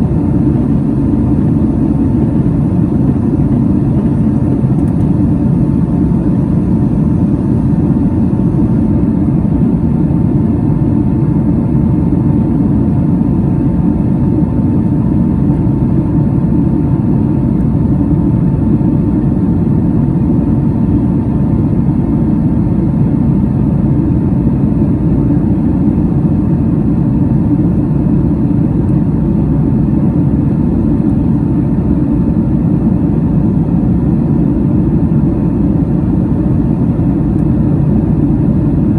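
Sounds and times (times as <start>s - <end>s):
airliner engines rumbling: 0.0s - 38.9s.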